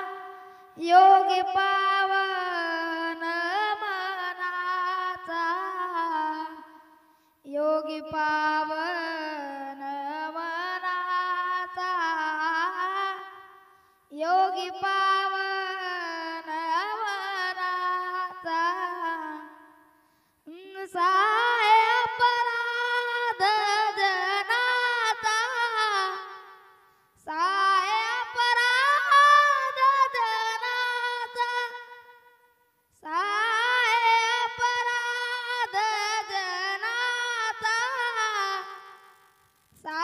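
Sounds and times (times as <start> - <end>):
boy singing unaccompanied: 0.0 - 19.8, 20.4 - 32.3, 32.9 - 39.1, 39.8 - 40.0.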